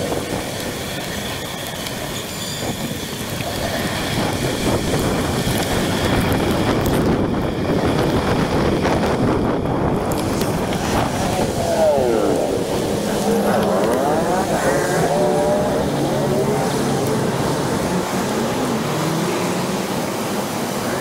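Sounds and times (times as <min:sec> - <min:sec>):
road traffic noise: 0:00.0 - 0:21.0
wind on microphone: 0:00.0 - 0:21.0.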